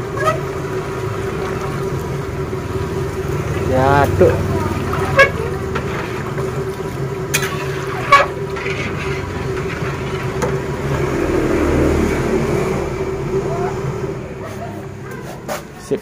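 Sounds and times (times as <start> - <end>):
chicken sizzling in hot oil: 0.0 - 12.9
low hum: 0.0 - 15.1.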